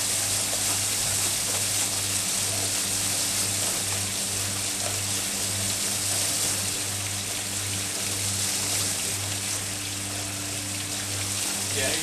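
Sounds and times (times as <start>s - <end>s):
dishwasher motor hum: 0.0s - 12.0s
water spraying inside dishwasher: 0.0s - 12.0s.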